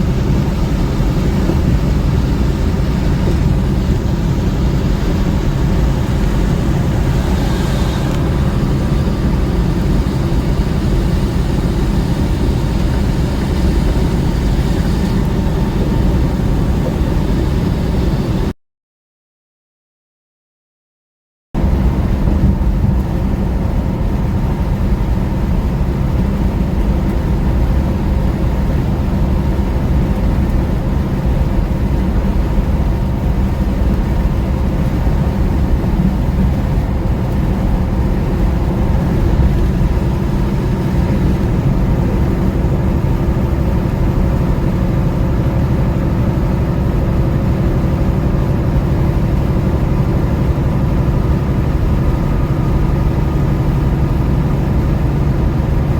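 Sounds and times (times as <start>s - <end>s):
road noise: 0.0s - 18.5s, 21.6s - 55.9s
truck diesel engine drone: 0.0s - 18.5s, 21.6s - 55.9s.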